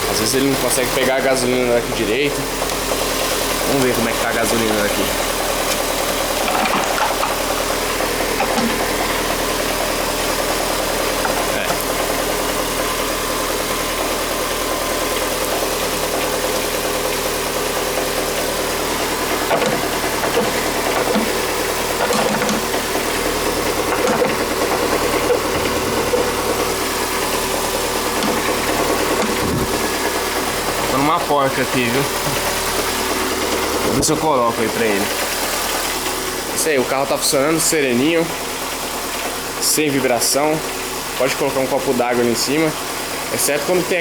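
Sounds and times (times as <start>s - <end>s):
car engine idling: 0.0s - 41.6s.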